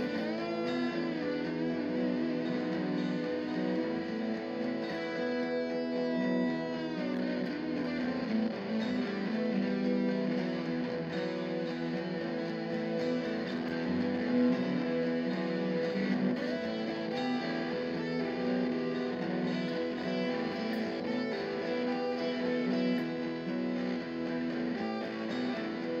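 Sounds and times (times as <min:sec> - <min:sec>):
electric guitar with effects: 0:00.0 - 0:26.0.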